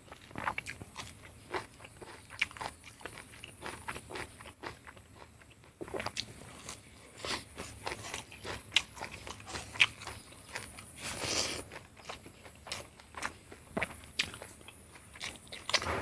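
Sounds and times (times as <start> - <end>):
close chewing of food: 0.0 - 16.0.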